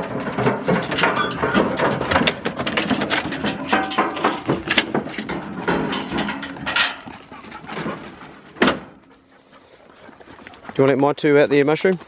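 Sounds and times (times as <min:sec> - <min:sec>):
dogs scuffing on dirt: 0:00.0 - 0:12.0.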